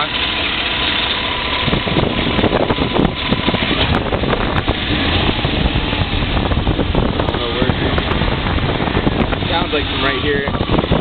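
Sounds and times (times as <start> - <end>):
engine running with rapid knock: 0.0 - 11.0.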